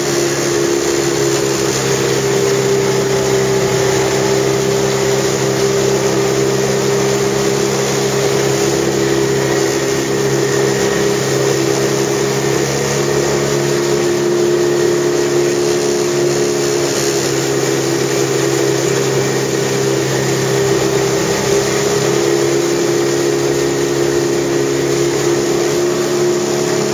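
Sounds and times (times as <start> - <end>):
motorboat engine running: 0.0 - 26.9
wind and water rushing: 0.0 - 26.9.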